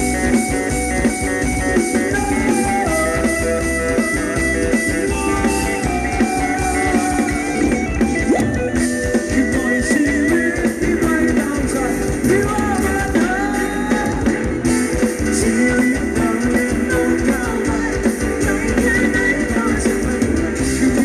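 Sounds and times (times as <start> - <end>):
electric guitar melody: 0.0 - 21.0
steady drum beat: 0.0 - 21.0.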